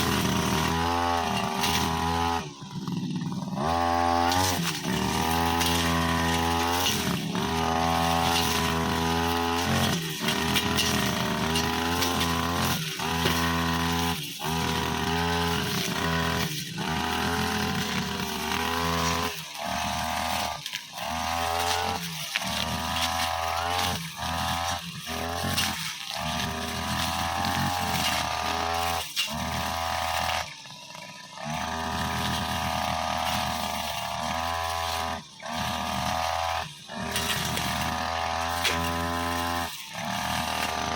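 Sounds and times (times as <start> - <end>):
blade cutting grass and saplings: 0.0 - 40.9
brushcutter engine running: 0.0 - 40.9.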